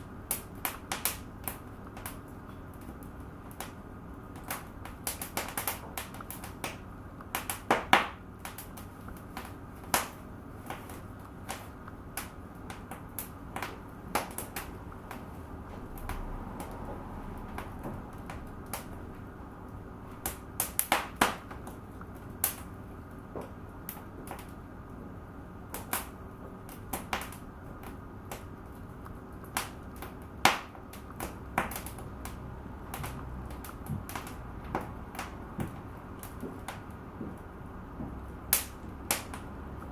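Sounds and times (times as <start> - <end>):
fire pops and snaps: 0.0 - 25.0, 25.6 - 39.9
wood fire crackling: 0.0 - 39.9.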